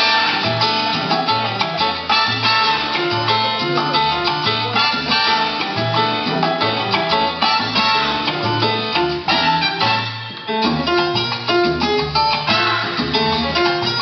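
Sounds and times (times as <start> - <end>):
latin dance music: 0.0 - 14.0.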